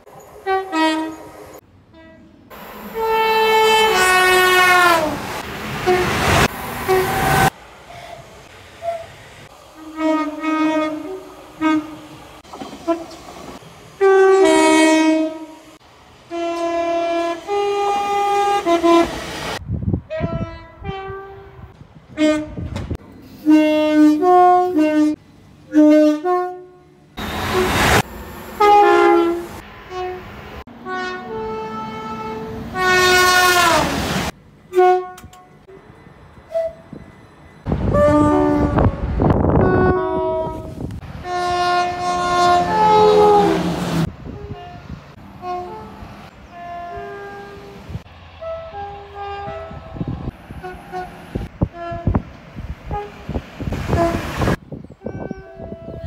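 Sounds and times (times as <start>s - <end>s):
two-tone train horn: 0.4s - 1.3s, 1.9s - 2.4s, 3.0s - 5.2s, 5.8s - 8.1s, 9.8s - 12.2s, 14.0s - 15.6s, 16.3s - 19.2s, 20.1s - 33.9s, 34.7s - 35.8s, 36.5s - 37.0s, 37.7s - 52.2s, 52.8s - 54.4s, 55.0s - 56.0s.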